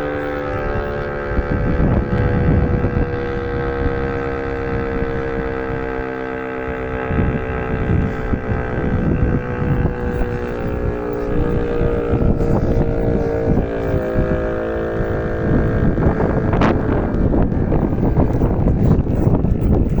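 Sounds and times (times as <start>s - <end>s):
steady siren tone: 0.0s - 20.0s
wind buffeting microphone: 0.0s - 20.0s.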